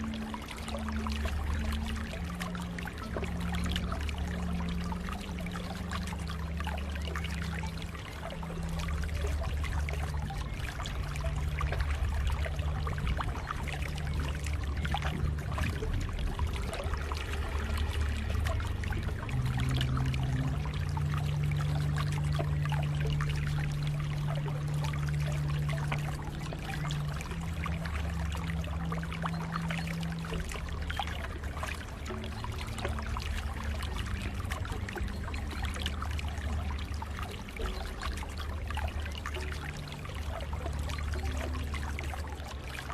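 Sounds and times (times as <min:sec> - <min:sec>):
low rumble: 0:00.0 - 0:42.9
low steady hum: 0:00.0 - 0:42.9
water splashing and trickling: 0:00.0 - 0:42.9.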